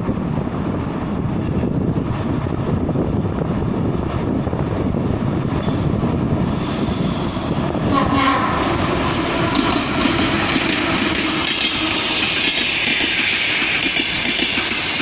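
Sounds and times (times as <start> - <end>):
train running through tunnel: 0.0 - 15.0.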